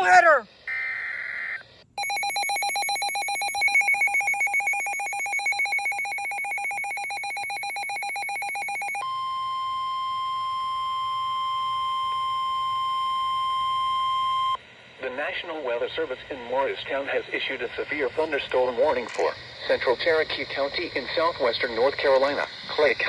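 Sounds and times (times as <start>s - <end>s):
rapidly pulsing electronic alarm: 0.0s - 14.6s, 15.4s - 23.0s
steady alarm tone: 0.0s - 14.6s, 15.5s - 23.0s.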